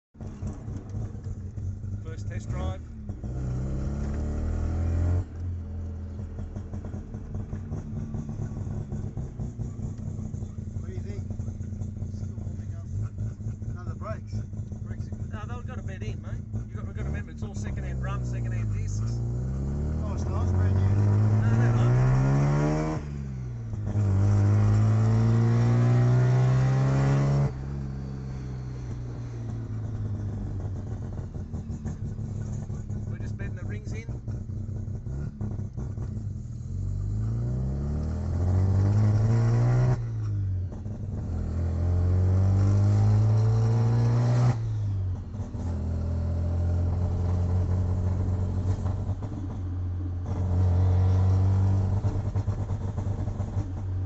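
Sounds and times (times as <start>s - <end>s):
rotary engine revving: 0.2s - 54.0s.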